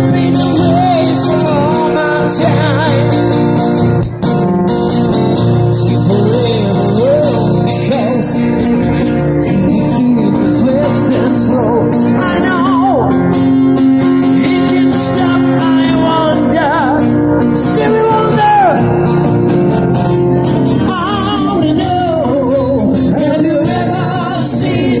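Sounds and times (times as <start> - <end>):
man singing: 0.0 - 3.8, 5.4 - 19.5, 20.1 - 25.0
acoustic guitars strummed: 0.0 - 25.0.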